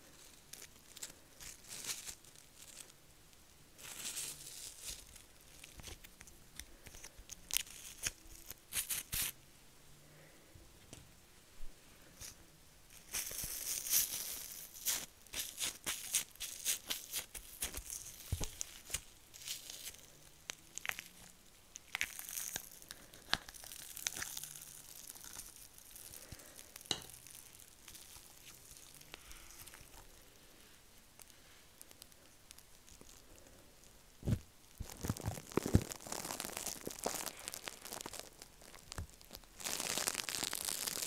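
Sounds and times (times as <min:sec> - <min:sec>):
foil flakes crinkling in slime: 0:00.0 - 0:03.1, 0:03.8 - 0:09.4, 0:12.2 - 0:30.4, 0:31.0 - 0:41.0.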